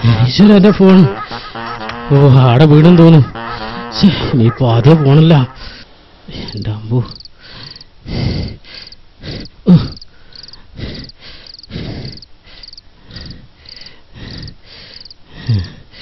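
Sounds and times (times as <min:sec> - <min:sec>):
crickets chirping: 0:02.9 - 0:16.0.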